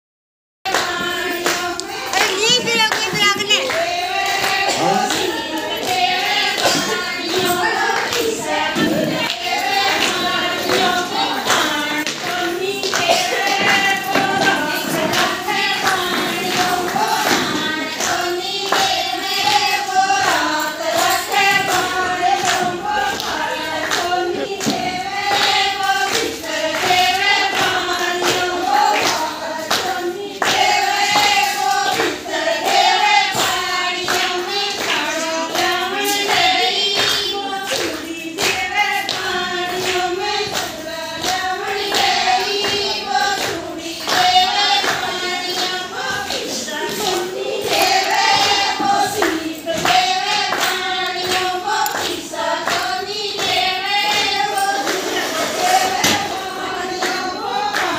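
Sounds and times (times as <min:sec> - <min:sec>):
hand clapping in time: 0:00.7 - 0:57.9
women singing folk song: 0:00.7 - 0:57.9.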